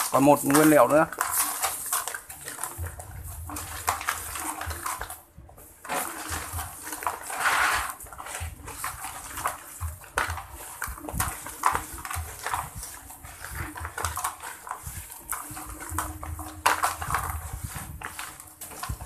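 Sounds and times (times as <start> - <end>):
hand mixing groundbait in basin: 0.0 - 19.0.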